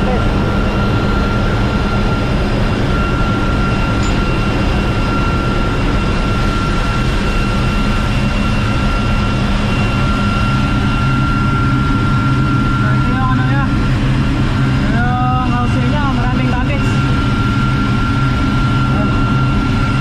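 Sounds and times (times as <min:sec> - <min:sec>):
engine room machinery drone: 0:00.0 - 0:20.0.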